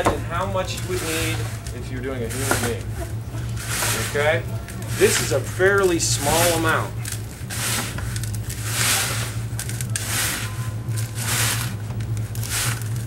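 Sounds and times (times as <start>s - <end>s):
steady low hum: 0.0s - 13.0s
hands crunching salt in bowl: 0.7s - 13.0s.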